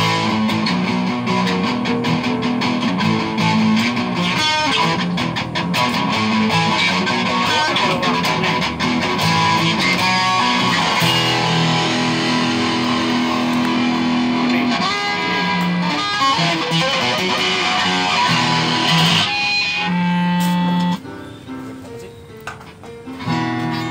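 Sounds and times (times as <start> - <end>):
fingerstyle acoustic guitar: 0.0 - 22.1, 22.7 - 23.9.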